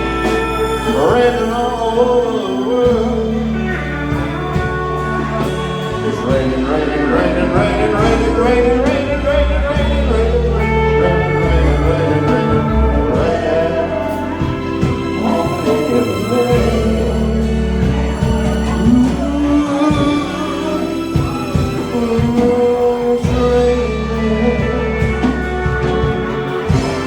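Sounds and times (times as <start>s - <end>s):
slow blues band music: 0.0s - 27.0s.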